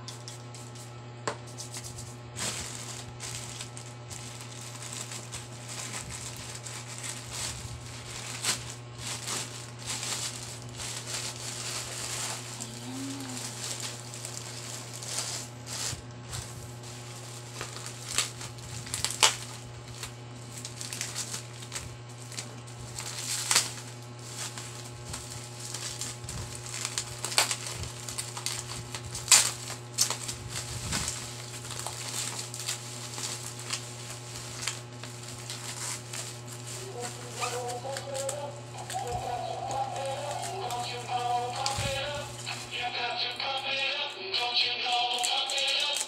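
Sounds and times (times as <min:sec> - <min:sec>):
bubble wrap crackling: 0:01.6 - 0:43.8, 0:44.4 - 0:46.0.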